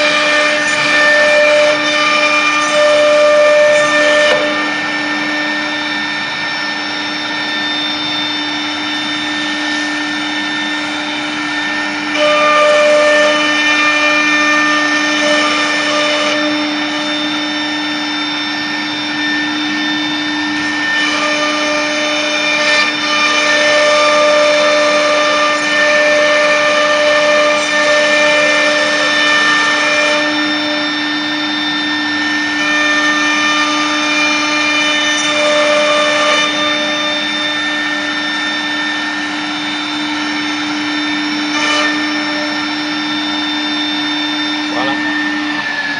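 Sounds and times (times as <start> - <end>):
router spindle whining: 0.0 - 45.9.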